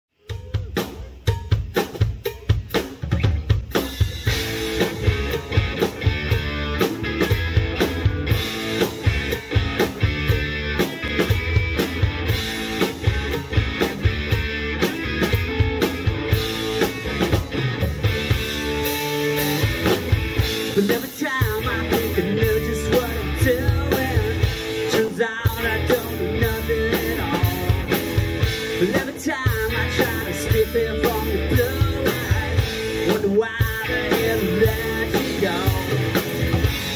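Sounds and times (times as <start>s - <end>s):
drum kit beat: 0.1s - 36.9s
electric guitar: 0.1s - 36.9s
live rock band playing: 0.1s - 36.9s.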